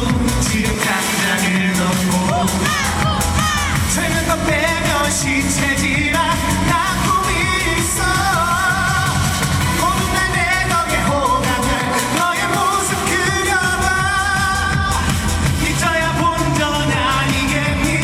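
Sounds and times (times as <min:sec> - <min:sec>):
band accompaniment with steady beat: 0:00.0 - 0:18.0
man singing through a pa: 0:00.0 - 0:18.0.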